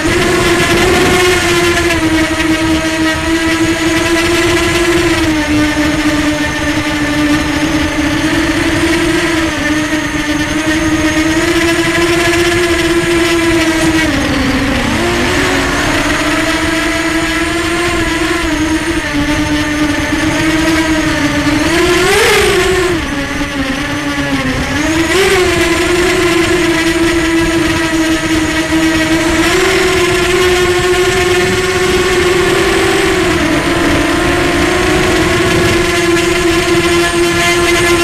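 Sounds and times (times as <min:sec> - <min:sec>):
model aircraft motors whining: 0:00.0 - 0:38.0.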